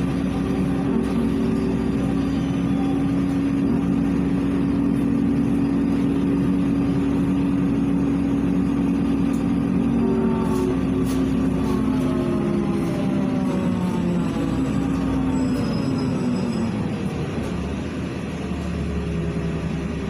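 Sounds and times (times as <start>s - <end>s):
bus engine and road drone: 0.0s - 20.0s.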